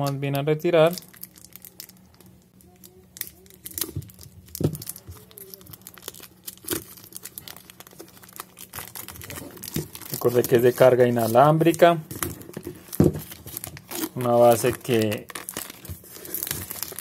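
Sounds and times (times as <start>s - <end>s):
plastic film crinkling: 0.8s - 17.0s.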